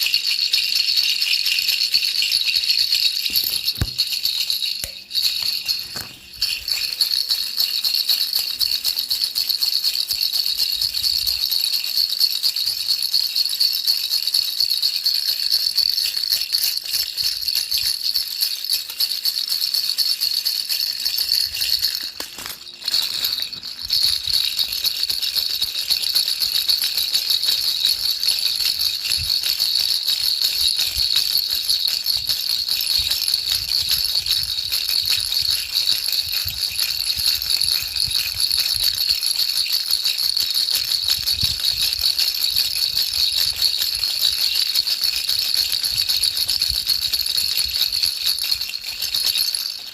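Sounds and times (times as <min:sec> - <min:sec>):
baby rattle shaking: 0:00.0 - 0:49.9.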